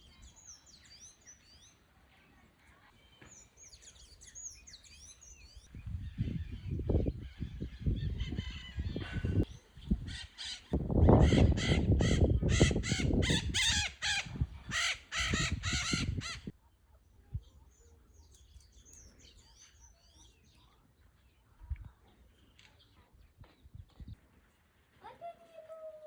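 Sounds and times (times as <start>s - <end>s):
small birds chirping: 0.0s - 11.5s, 12.2s - 24.2s.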